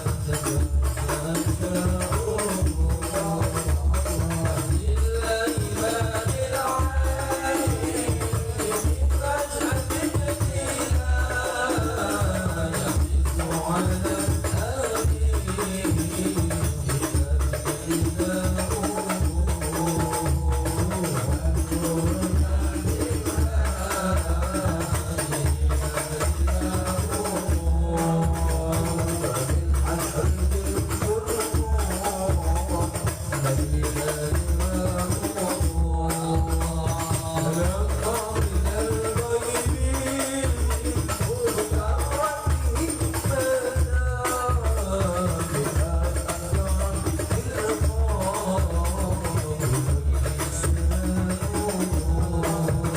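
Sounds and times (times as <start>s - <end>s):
frame drums beating: 0.0s - 52.9s
person singing devotional song: 0.0s - 52.9s.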